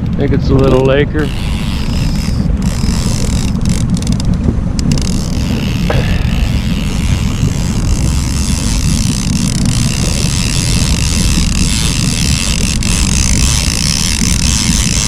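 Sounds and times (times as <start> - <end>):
boat motor rumbling: 0.0 - 15.0
wind noise on microphone: 0.0 - 15.0.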